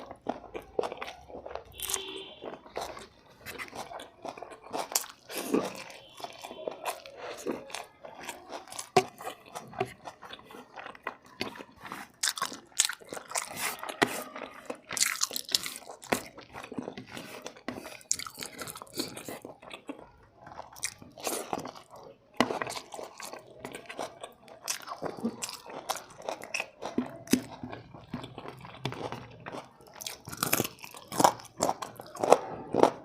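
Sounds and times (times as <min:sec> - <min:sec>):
chewing and biting food: 0:00.0 - 0:33.0.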